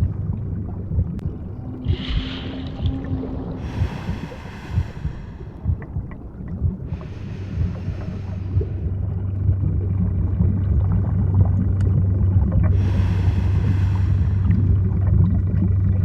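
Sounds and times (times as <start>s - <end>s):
low hum: 0.0s - 16.0s
rushing hiss and bubbling: 0.0s - 16.0s
underwater low rumble: 0.0s - 16.0s.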